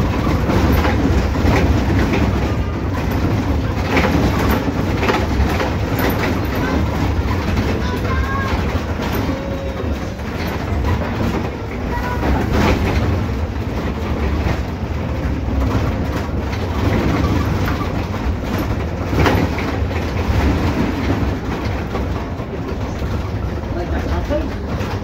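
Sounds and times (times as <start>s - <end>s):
bus engine and road rumble: 0.0s - 25.0s
interior rattles: 0.0s - 25.0s.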